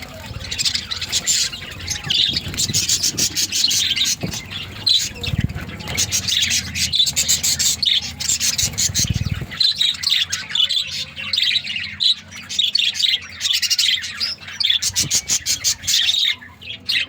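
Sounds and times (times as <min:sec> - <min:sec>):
budgerigars chattering: 0:00.0 - 0:17.0.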